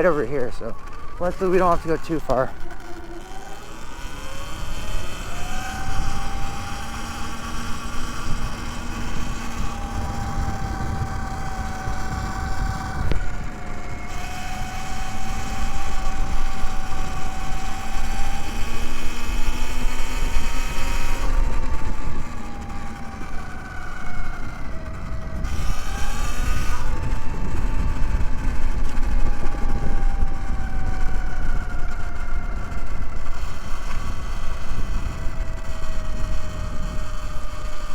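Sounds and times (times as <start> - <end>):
electric motorbike motor whining: 0.0 - 37.9.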